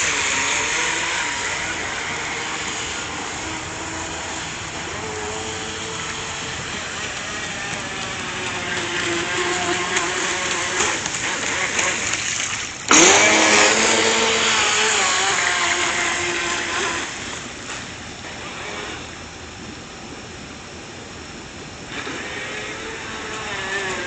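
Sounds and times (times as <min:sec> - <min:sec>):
electric motor whine: 0:00.0 - 0:19.2, 0:21.8 - 0:24.0
boat hull and spray hiss: 0:00.0 - 0:24.0.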